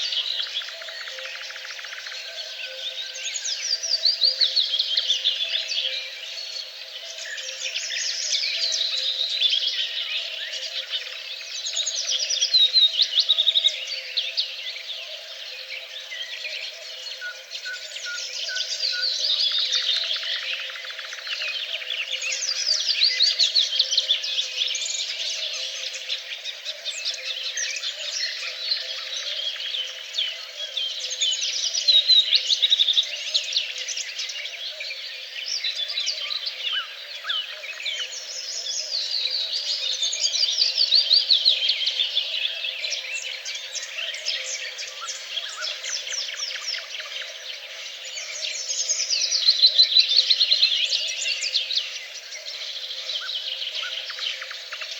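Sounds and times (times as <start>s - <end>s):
songbirds chirping and trilling: 0.0s - 54.9s.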